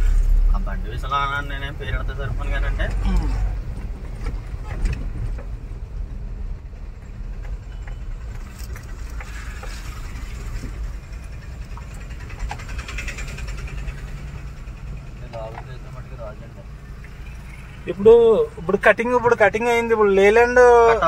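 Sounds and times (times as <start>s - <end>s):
engine and road noise rumbling: 0.0s - 21.0s.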